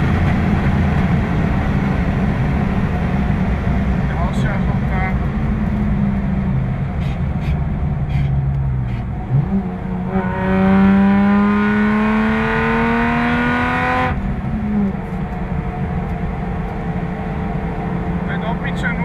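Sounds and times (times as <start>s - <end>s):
car engine accelerating hard: 0.0s - 19.0s
road and wind noise: 0.0s - 19.0s.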